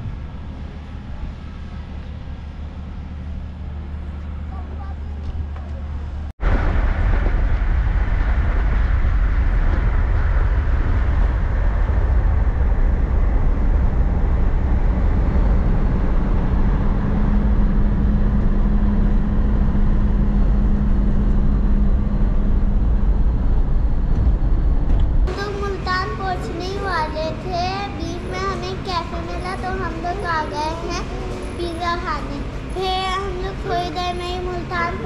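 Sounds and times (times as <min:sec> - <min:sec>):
steady hum: 0:00.0 - 0:35.0
vehicle road and wind noise: 0:00.0 - 0:35.0.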